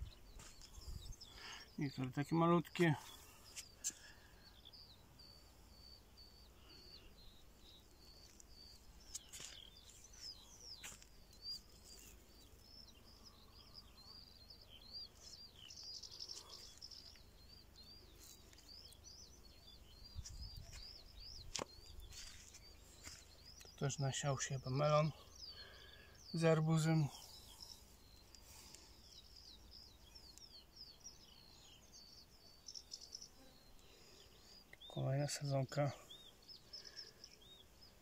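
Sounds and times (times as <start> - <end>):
small bird chirping: 0.0 - 38.0.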